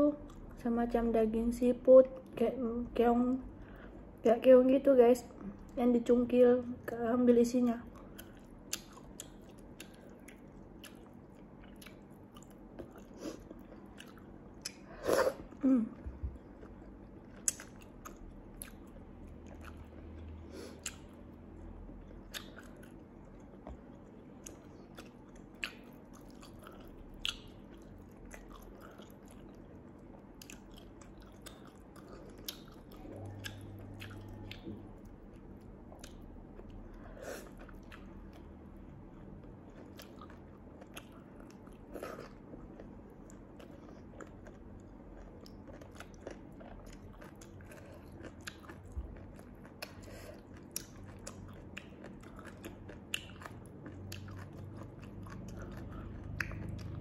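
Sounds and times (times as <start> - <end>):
wet chewing and mouth clicks: 7.9 - 14.9, 16.2 - 57.0.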